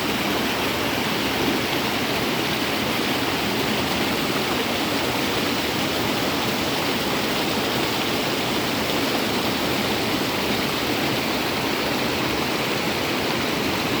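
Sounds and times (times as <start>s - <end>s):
rushing flowing water: 0.0s - 14.0s.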